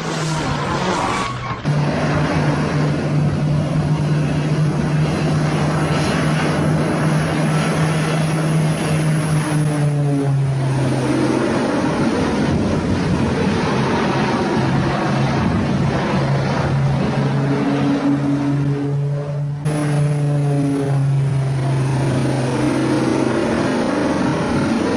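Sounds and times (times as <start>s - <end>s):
propeller aircraft engine droning: 0.0s - 24.9s.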